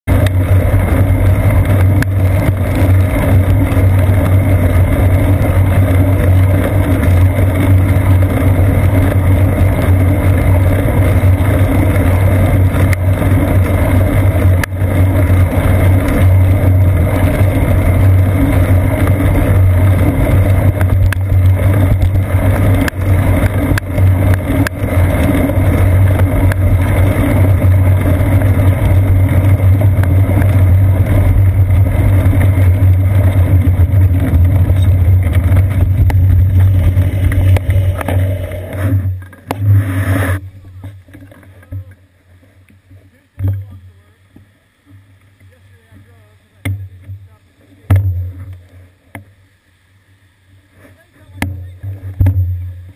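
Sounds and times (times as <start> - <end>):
bicycle vibration rumble: 0.0 - 52.9.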